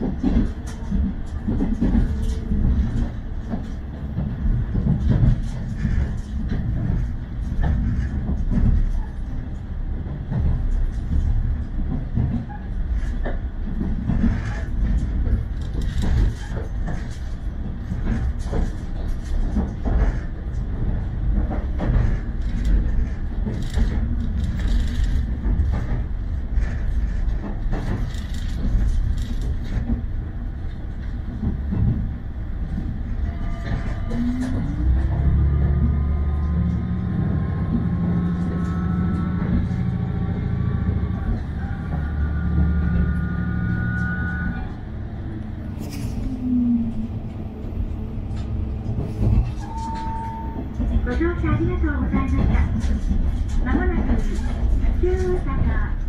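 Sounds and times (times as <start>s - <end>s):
train running gear rumble: 0.0s - 56.0s
wheels clicking on track: 0.0s - 56.0s.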